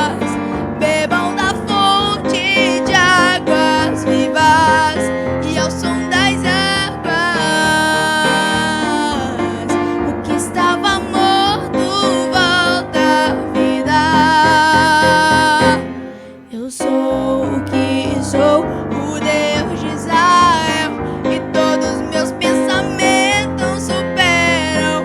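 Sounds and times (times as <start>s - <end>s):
piano accompaniment: 0.0s - 25.0s
woman singing with vibrato: 0.0s - 25.0s.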